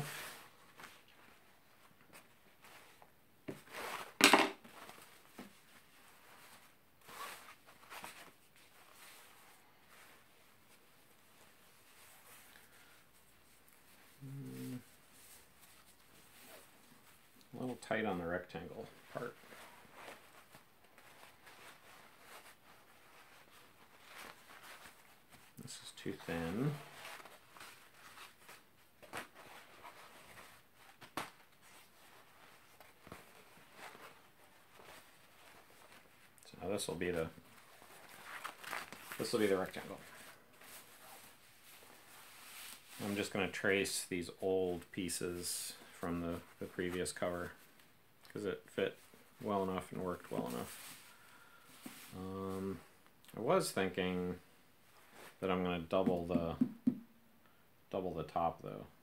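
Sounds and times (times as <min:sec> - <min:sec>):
fabric rustling: 0:00.0 - 0:43.8, 0:48.9 - 0:53.2.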